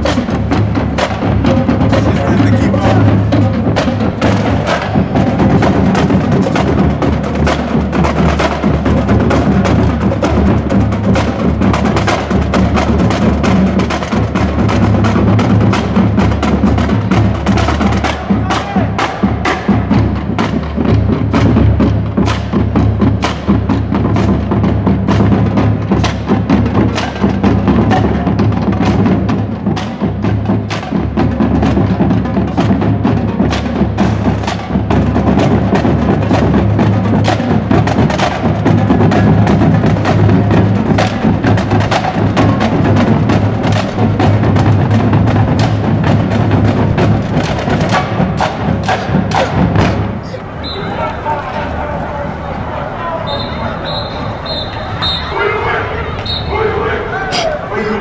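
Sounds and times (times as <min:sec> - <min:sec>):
bass drum beats: 0:00.0 - 0:50.5
snare drum strokes: 0:00.0 - 0:50.8, 0:53.3 - 0:58.0.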